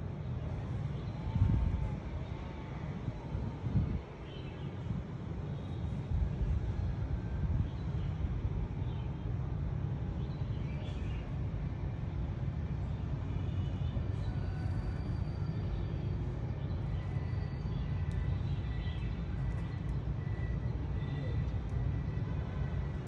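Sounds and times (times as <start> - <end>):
low outdoor background rumble: 0.0 - 23.0.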